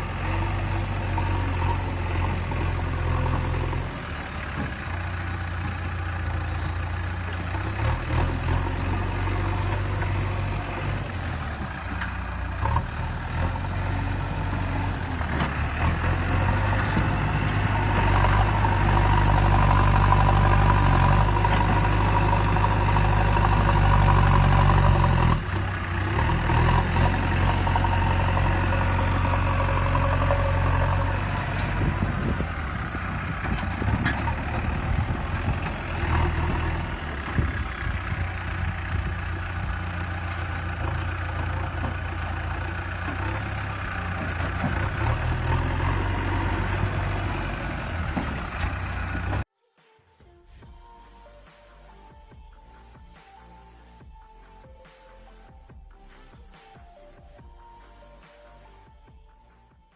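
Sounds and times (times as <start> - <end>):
diesel engine revving: 0.0 - 49.5.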